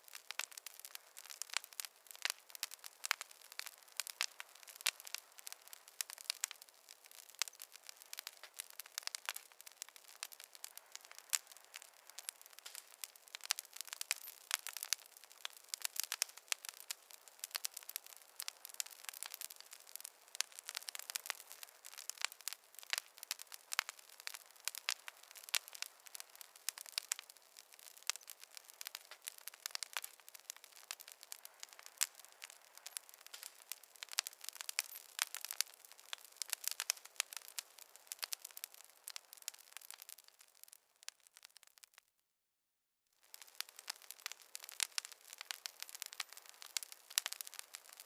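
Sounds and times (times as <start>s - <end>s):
wood fire crackling and popping: 0.0s - 42.1s, 43.2s - 48.0s.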